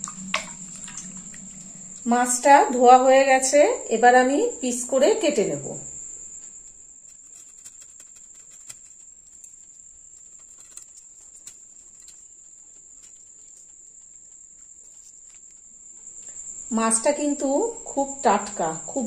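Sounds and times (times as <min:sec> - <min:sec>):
steady high-pitched whine: 0:00.0 - 0:19.0.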